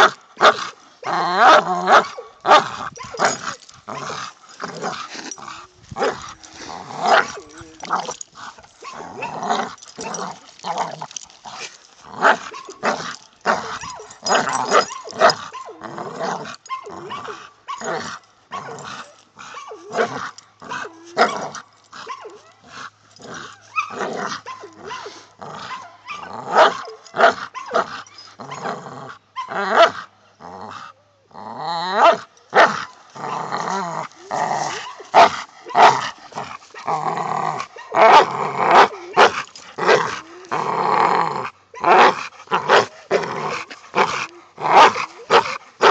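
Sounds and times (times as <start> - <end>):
dog growling and barking: 0.0 - 45.9.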